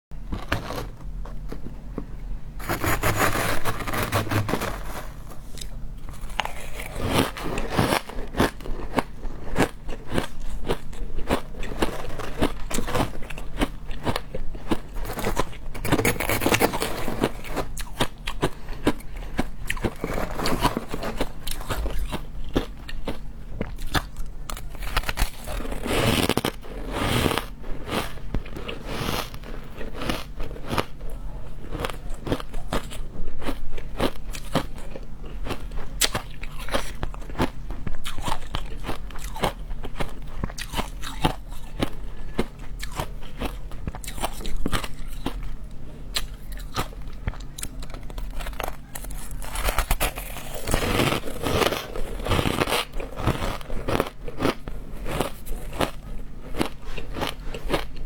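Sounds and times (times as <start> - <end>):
crunching frozen ice: 0.2 - 1.7, 2.6 - 45.4, 46.1 - 58.0.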